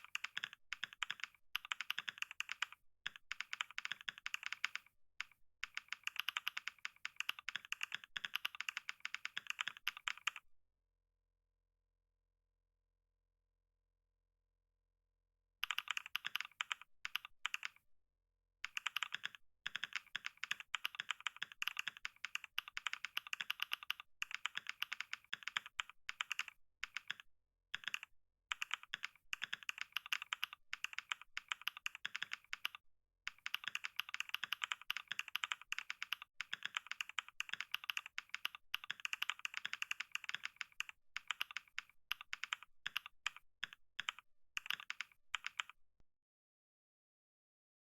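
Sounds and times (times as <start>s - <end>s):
fast keyboard typing: 0.0s - 10.4s, 15.6s - 17.8s, 18.7s - 45.8s.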